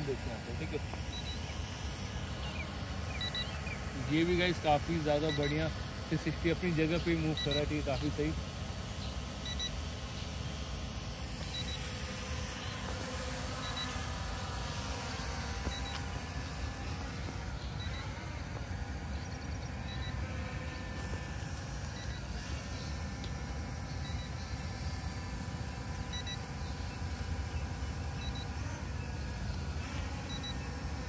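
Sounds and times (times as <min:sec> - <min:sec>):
drone propellers whirring: 0:00.0 - 0:31.0.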